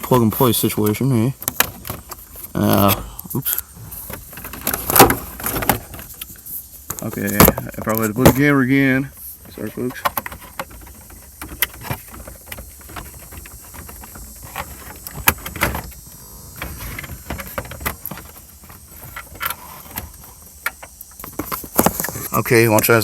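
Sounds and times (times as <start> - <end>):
clicks and knocks of handling: 0.0 - 2.6, 3.2 - 16.0, 16.6 - 23.0.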